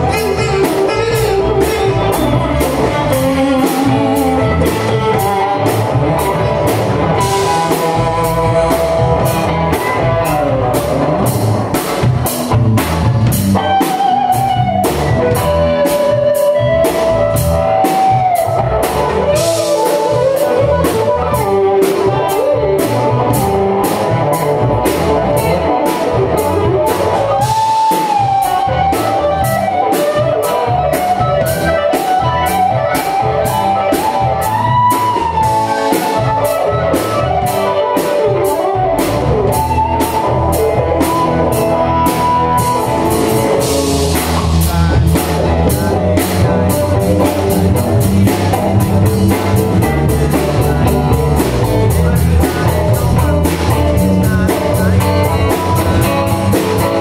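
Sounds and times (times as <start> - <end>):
drum kit beat with cymbals: 0.0 - 57.0
electric guitar lead: 0.0 - 57.0.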